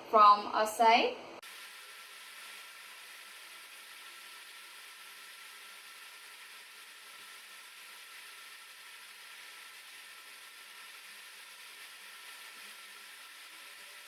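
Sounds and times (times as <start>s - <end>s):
background recording hiss: 0.5s - 14.0s.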